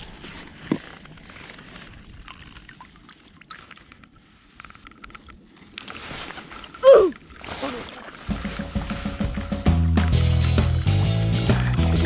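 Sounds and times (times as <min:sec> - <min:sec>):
water lapping around boat hull: 0:00.0 - 0:09.7.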